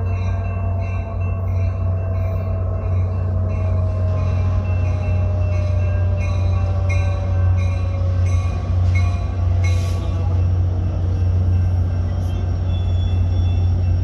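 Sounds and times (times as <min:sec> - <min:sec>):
crossing bells ringing: 0:00.0 - 0:14.0
diesel locomotive passing: 0:00.0 - 0:14.0.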